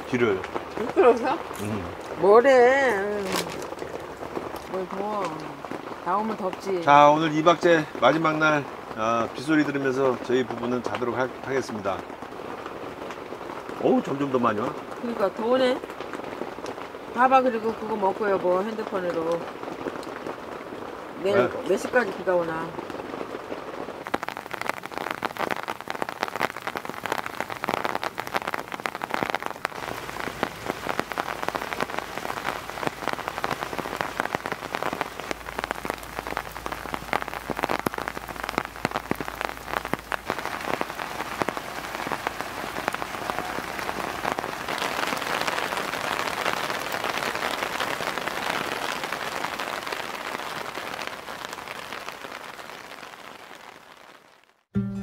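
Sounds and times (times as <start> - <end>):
heavy rain on a tent: 0.0 - 54.7.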